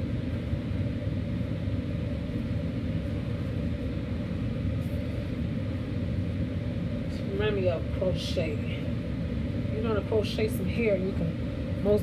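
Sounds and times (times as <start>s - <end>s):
air conditioner running: 0.0s - 12.0s.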